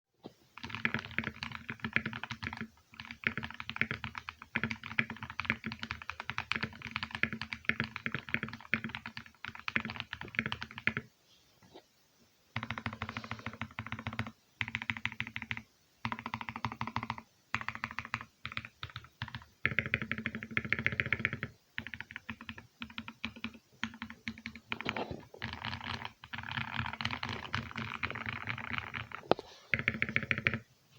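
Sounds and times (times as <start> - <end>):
mechanical keyboard typing: 0.6 - 11.1, 12.6 - 30.6.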